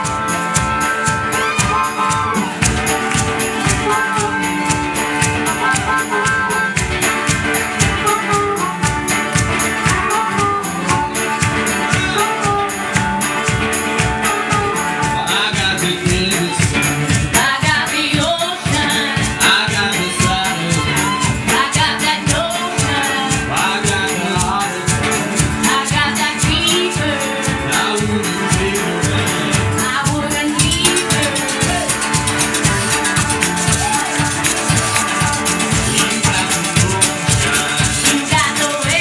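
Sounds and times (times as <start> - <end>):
percussive strokes beat: 0.0 - 39.0
person singing lead vocal: 0.0 - 39.0
resonator guitar: 0.0 - 39.0
skiffle band playing: 0.0 - 39.0.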